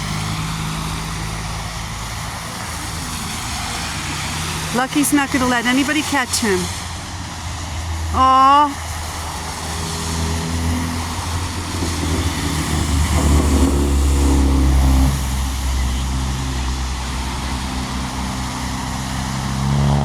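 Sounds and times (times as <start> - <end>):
traffic passing: 0.0 - 20.0
vehicle engine humming: 0.0 - 20.0.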